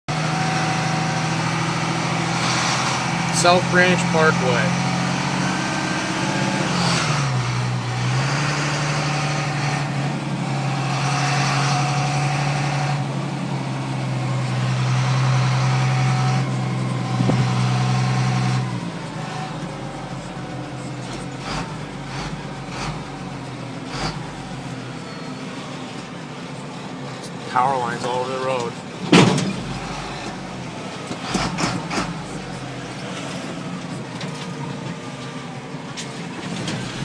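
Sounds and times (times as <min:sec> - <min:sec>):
road noise: 0:00.0 - 0:37.0
car engine hum: 0:00.1 - 0:37.0.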